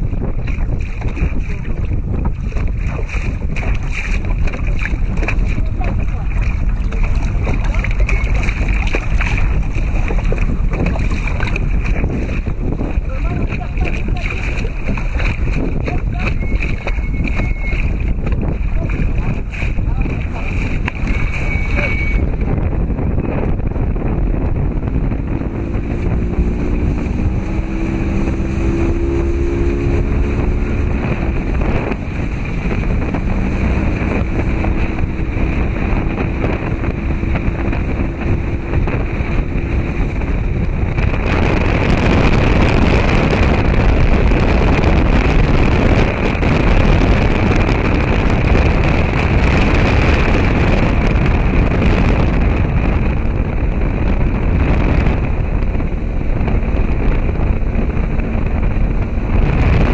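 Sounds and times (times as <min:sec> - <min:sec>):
motor droning: 0:00.0 - 0:59.9
water noise: 0:00.0 - 0:59.9
wind on microphone: 0:00.0 - 0:59.9.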